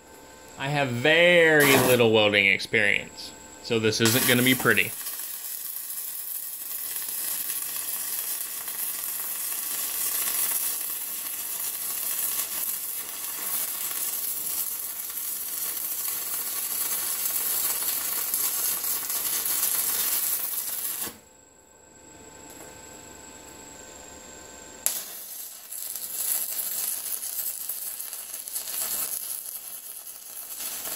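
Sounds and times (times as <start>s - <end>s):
welding arc crackling hiss: 0.2s - 3.0s, 3.7s - 21.3s, 24.8s - 30.9s.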